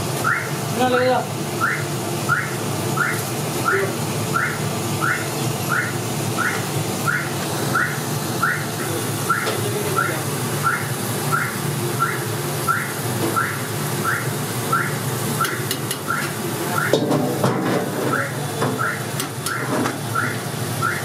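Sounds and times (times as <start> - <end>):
electronic alarm beeping: 0.2 - 0.5, 1.6 - 8.7, 9.3 - 17.0, 18.1 - 21.0.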